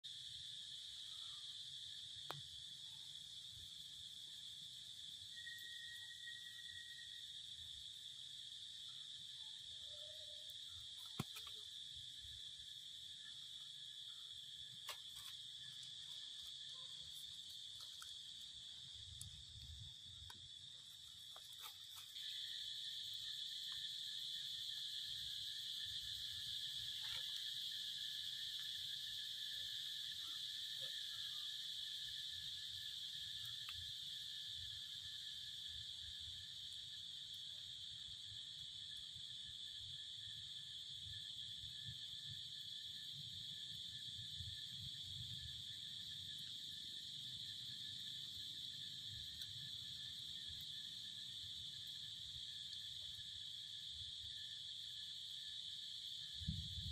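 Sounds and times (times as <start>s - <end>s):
high-pitched insect chorus: 0.0s - 56.9s.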